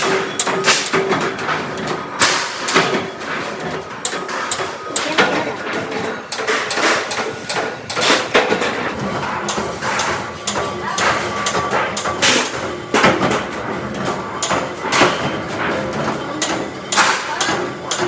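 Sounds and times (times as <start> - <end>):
metal clanks and knocks: 0.0 - 18.0
steady machine hum: 0.0 - 18.0.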